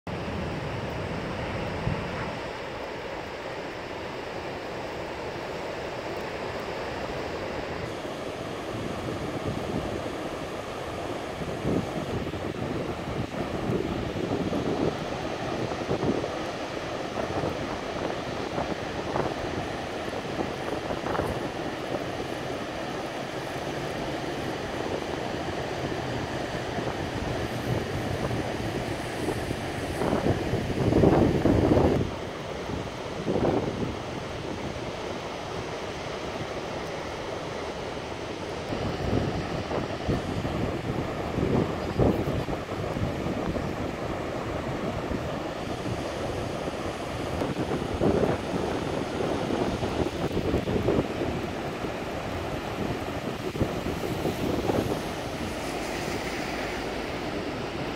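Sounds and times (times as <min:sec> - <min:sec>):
ocean surf rumble: 0:00.1 - 0:57.9
wind buffeting microphone: 0:07.7 - 0:57.9.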